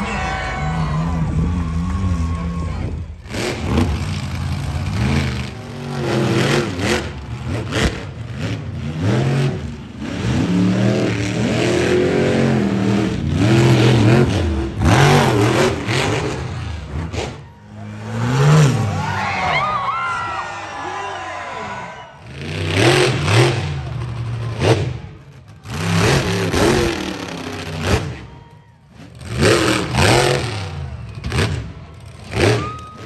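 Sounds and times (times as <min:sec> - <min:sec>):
truck engine revving: 0:00.0 - 0:20.5, 0:22.1 - 0:33.0.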